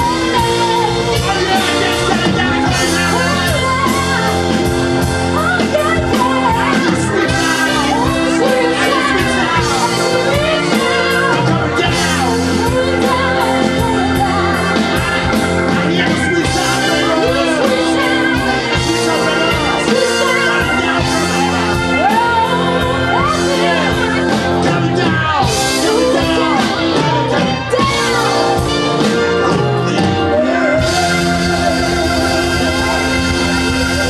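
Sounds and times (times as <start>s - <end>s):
person singing: 0.0s - 34.0s
rock band playing live: 0.0s - 34.0s.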